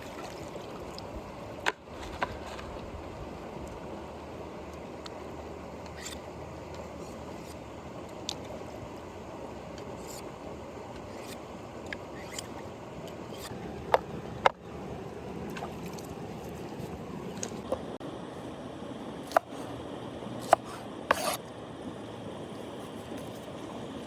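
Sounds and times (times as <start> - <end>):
river flowing: 0.0 - 22.8.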